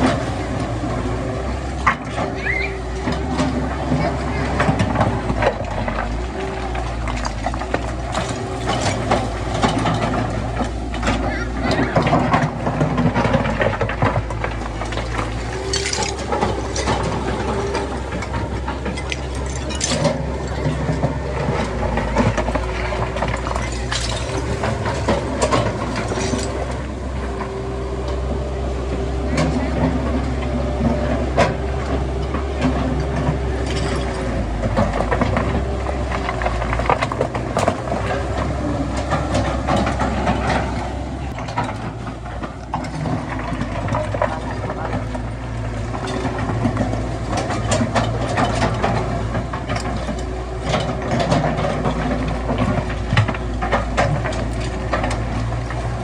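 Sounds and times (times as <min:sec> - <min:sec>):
metal clanks and creaks: 0:00.0 - 0:28.3, 0:29.3 - 0:56.0
diesel machinery engine hum: 0:00.0 - 0:56.0
knocks and clattering: 0:03.0 - 0:28.2, 0:31.1 - 0:56.0.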